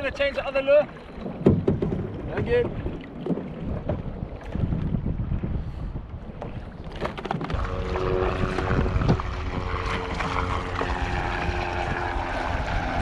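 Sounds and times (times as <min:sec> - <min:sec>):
wind buffeting microphone: 0:00.0 - 0:13.0
paddle strokes splashing water: 0:00.3 - 0:05.2, 0:06.2 - 0:13.0.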